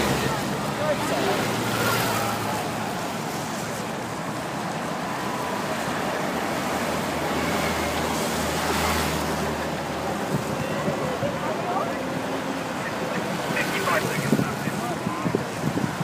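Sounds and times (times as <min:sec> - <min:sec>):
waiting crowd noise: 0:00.0 - 0:16.0
wind: 0:00.0 - 0:16.0.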